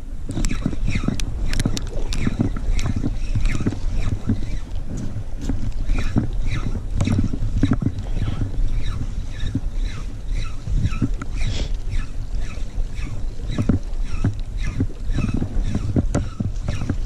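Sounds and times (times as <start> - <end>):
wind rumble on microphone: 0.0 - 17.0
fishing reel clicking: 0.2 - 17.0.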